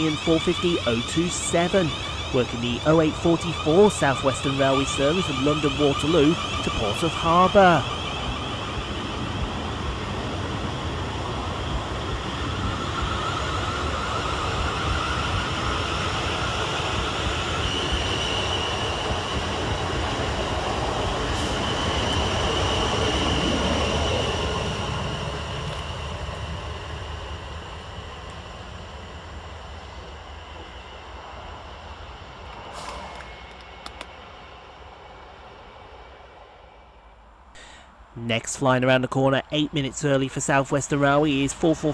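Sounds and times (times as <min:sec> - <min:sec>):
electric train motor whine: 0:00.0 - 0:38.1.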